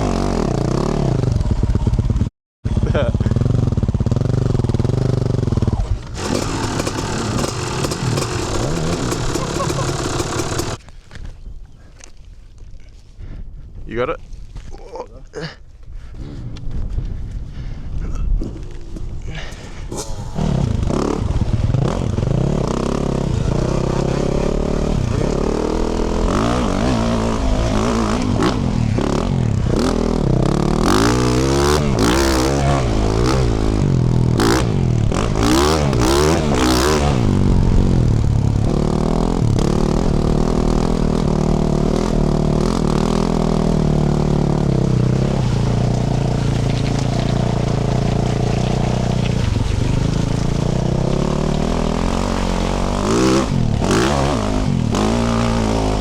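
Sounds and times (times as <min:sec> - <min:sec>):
exhaust crackles: 0:00.0 - 0:10.8, 0:16.2 - 0:56.0
motorcycle engine revving: 0:00.0 - 0:10.8, 0:18.4 - 0:56.0.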